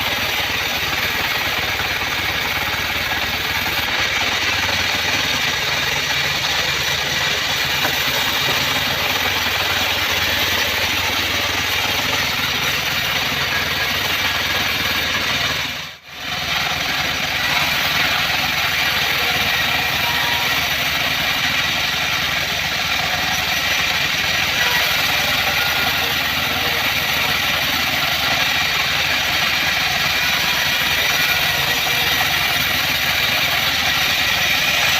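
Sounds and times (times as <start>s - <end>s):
band sawmill running: 0.0s - 34.9s.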